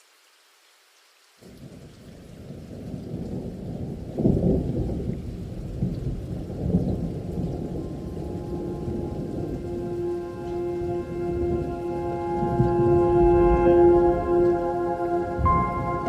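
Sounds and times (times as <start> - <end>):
heavy rain: 0.0 - 16.0
rolling thunder: 2.4 - 16.0.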